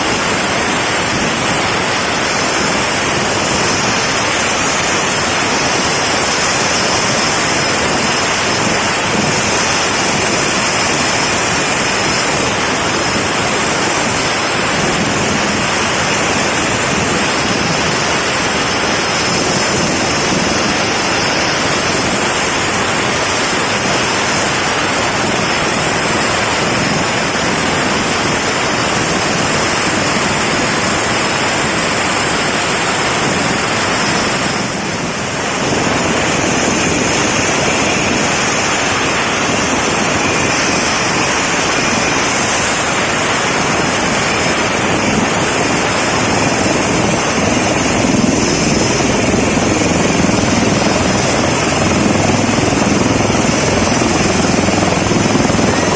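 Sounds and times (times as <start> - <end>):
faint high turbine whine: 0.0 - 55.9
helicopter rotor rushing: 0.0 - 55.9
rotor wash on microphone: 0.0 - 55.9.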